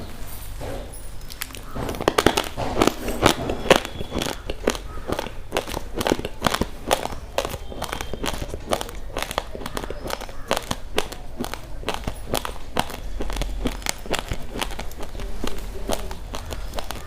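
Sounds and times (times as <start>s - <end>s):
chewing crunchy rice: 1.2s - 17.0s.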